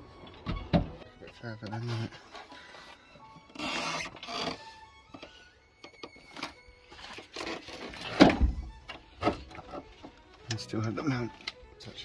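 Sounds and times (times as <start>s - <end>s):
background music: 0.0s - 12.0s
metal clunks and scrapes: 0.2s - 2.7s, 3.5s - 11.6s.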